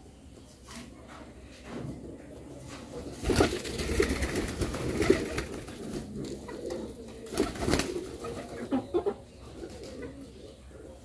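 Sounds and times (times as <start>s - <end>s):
birds cooing: 1.9s - 11.0s.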